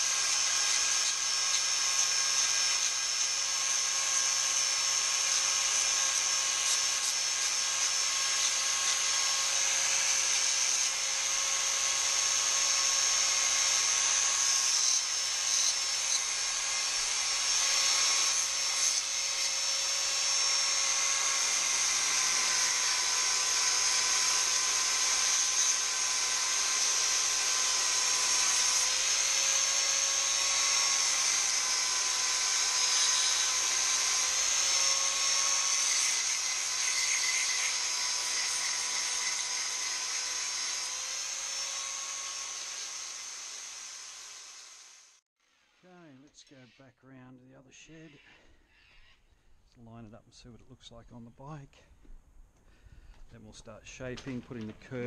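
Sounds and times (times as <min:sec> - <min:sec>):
rotary tool motor whine: 0:00.0 - 0:45.7.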